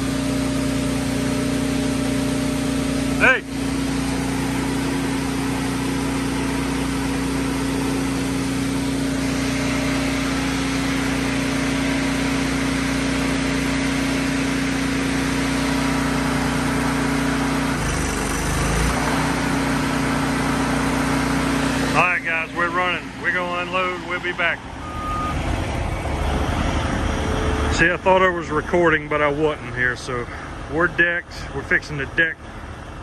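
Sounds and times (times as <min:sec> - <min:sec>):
engine-driven welder running: 0:00.0 - 0:33.0.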